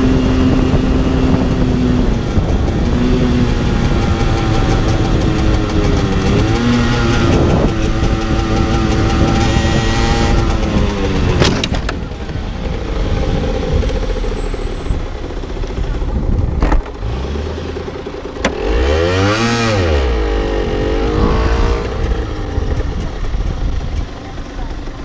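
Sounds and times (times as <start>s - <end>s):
wind noise: 0.0s - 17.4s, 18.4s - 24.4s
small two-stroke engine: 0.0s - 25.0s.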